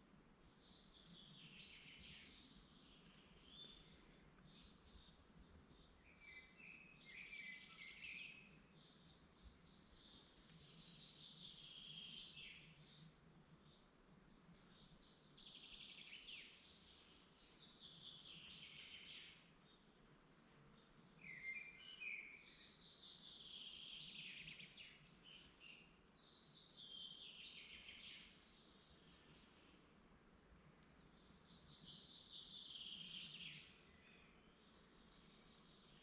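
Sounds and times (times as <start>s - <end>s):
faint steady background: 0.0s - 36.0s
songbirds singing: 0.0s - 36.0s.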